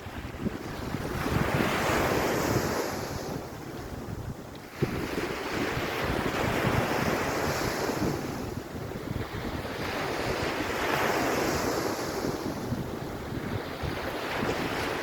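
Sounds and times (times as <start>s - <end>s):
surf washing onto beach: 0.0s - 15.0s
wind rumbling on microphone: 0.0s - 15.0s.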